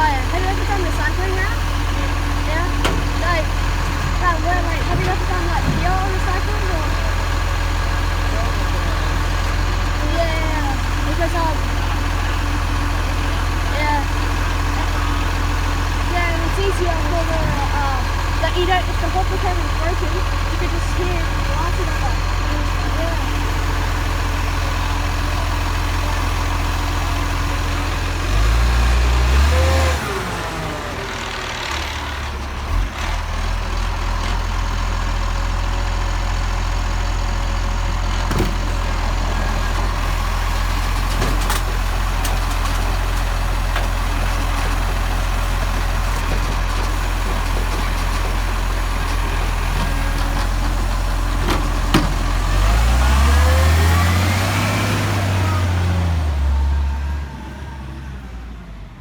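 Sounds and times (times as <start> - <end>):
garbage truck diesel engine revving: 0.0 - 59.0.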